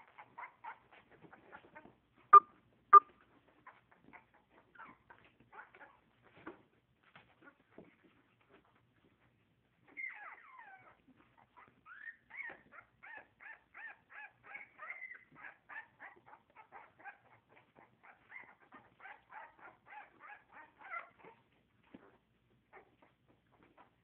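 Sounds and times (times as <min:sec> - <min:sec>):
puppies whimpering and yipping: 0:00.0 - 0:02.0, 0:03.4 - 0:07.7, 0:08.4 - 0:24.0.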